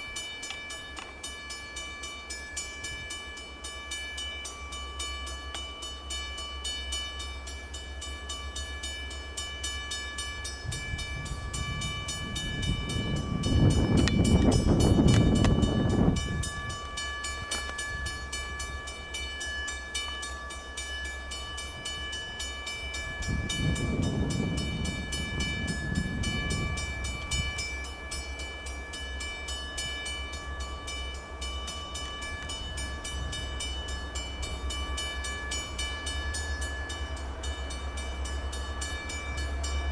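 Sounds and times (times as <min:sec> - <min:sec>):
locomotive engine rumble: 0:00.0 - 0:39.9.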